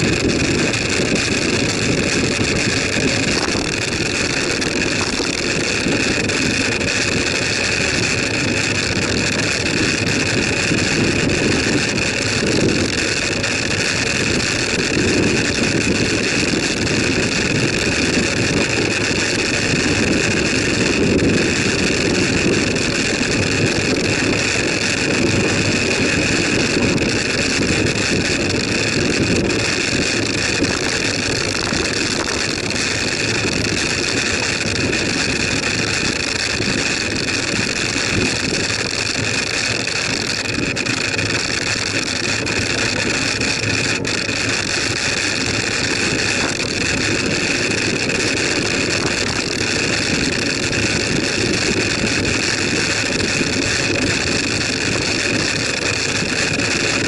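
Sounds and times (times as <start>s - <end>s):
bicycle tyres rolling on tarmac: 0.0s - 57.0s
wind on microphone: 0.0s - 57.0s.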